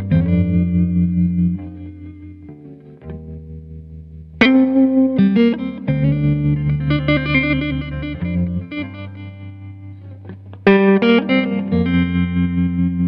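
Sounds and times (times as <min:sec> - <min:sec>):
picked string music over bass: 0:00.0 - 0:13.0.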